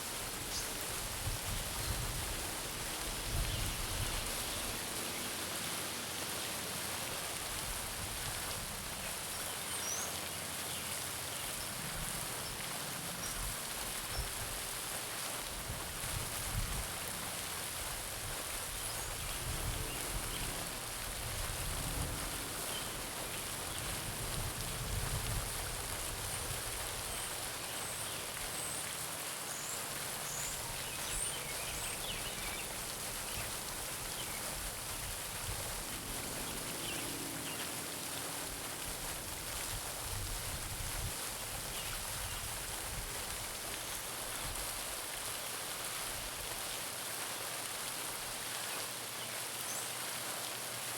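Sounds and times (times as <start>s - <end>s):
fountain splashing into pond: 0.0s - 50.9s.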